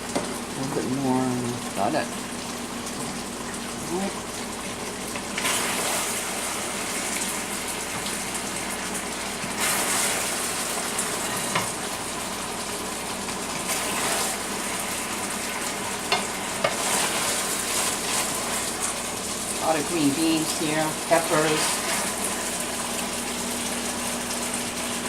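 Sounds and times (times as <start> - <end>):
stir fry sizzling in a wok: 0.0 - 25.0.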